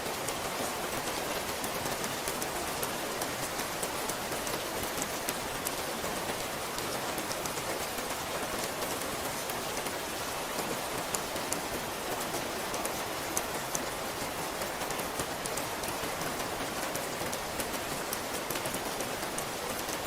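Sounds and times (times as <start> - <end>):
raindrops ticking on a surface: 0.0 - 20.0
steady rain hiss: 0.0 - 20.0.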